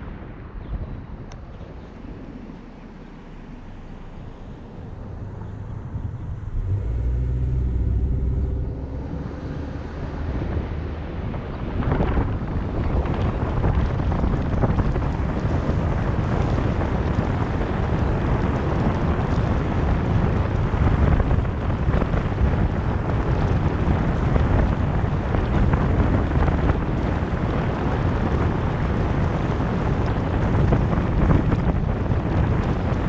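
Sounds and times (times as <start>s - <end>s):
road noise: 0.0s - 33.0s
wind buffeting microphone: 0.0s - 33.0s.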